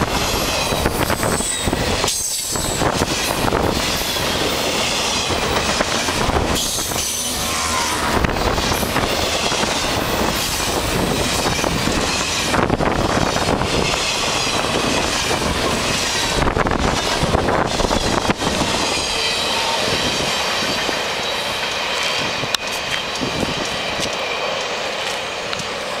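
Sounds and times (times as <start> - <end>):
train wheels rumbling on rail: 0.0 - 26.0
high wheel squeal: 0.1 - 15.4, 17.7 - 25.4.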